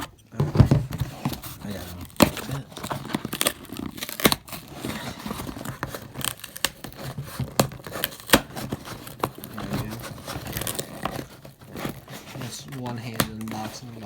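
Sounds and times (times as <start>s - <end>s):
cardboard scraping and tearing: 0.0s - 14.0s.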